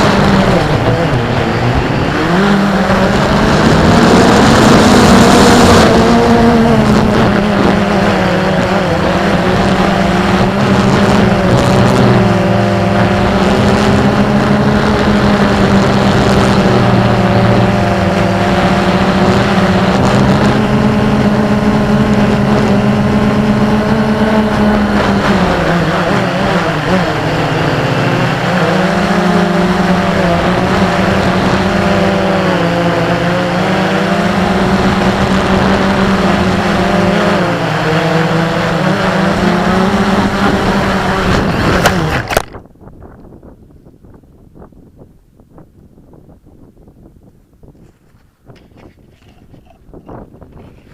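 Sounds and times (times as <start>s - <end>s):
quadcopter propellers buzzing: 0.0s - 42.6s, 47.9s - 50.9s.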